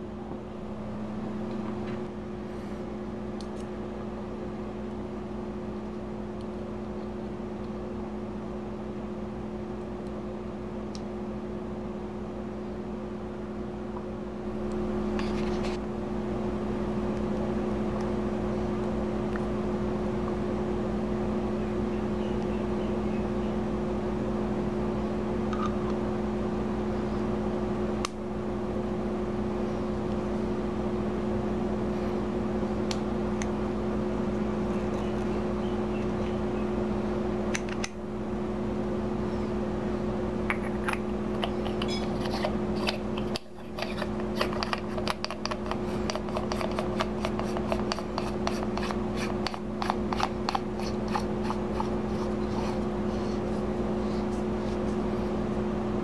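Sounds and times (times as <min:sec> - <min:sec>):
electrical hum with fan whir: 0:00.0 - 0:56.0.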